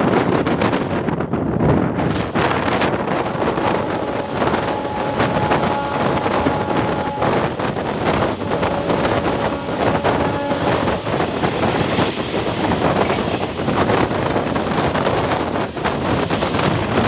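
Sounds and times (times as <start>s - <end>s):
train coach rumbling and rattling: 0.0s - 17.0s
wind buffeting microphone: 0.0s - 17.0s.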